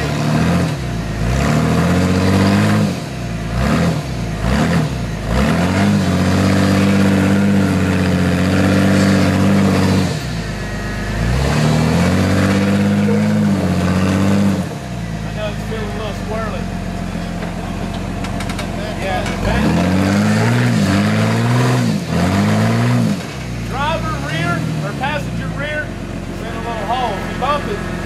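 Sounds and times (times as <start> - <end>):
engine revving under load: 0.0 - 28.0.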